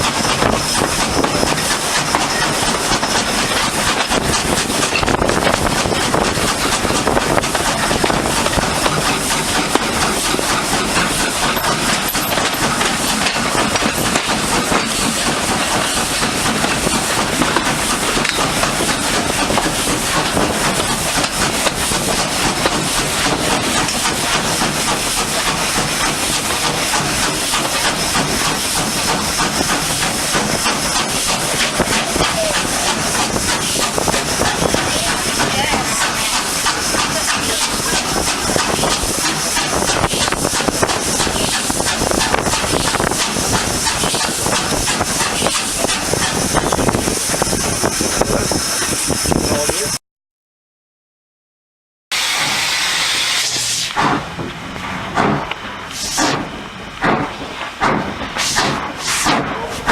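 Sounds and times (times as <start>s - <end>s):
steam hissing: 0.0s - 50.0s, 52.1s - 54.4s, 55.2s - 59.9s
train running noise: 0.0s - 50.0s, 52.1s - 59.9s.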